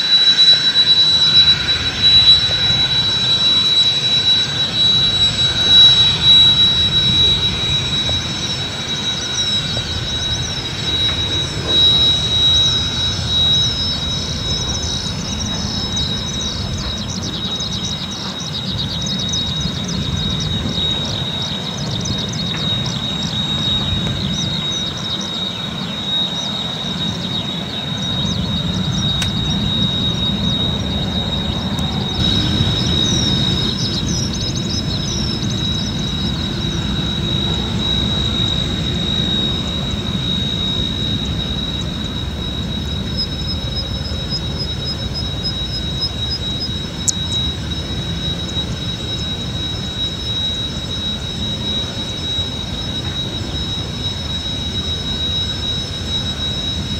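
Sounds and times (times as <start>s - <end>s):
jet engines whining: 0.0s - 56.9s.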